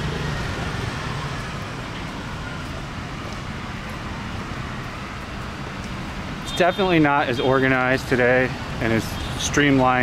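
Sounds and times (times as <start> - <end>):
motorbike riding in traffic: 0.0 - 10.0.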